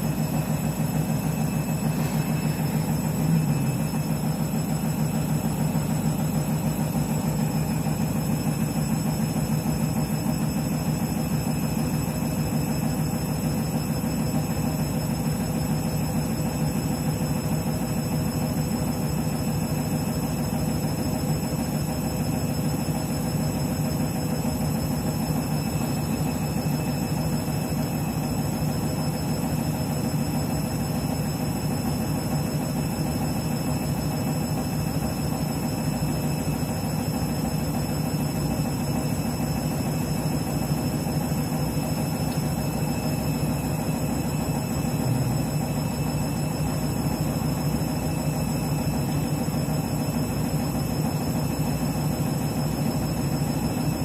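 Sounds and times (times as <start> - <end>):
washing machine humming: 0.0 - 54.0.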